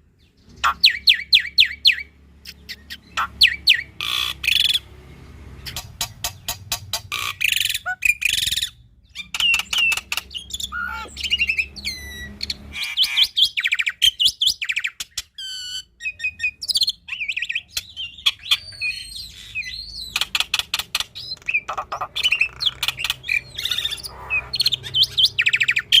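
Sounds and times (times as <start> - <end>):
bird singing varied song: 0.0 - 26.0.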